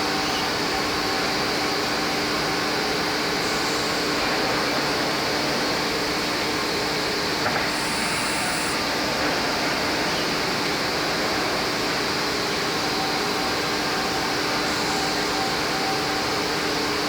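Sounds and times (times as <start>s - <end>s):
sanding machine rushing hum: 0.7s - 16.8s.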